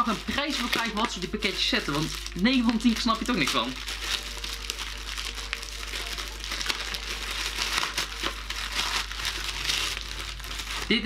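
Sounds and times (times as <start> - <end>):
plastic bag crinkling: 0.0 - 11.0
sharp plastic crackles: 0.0 - 11.0.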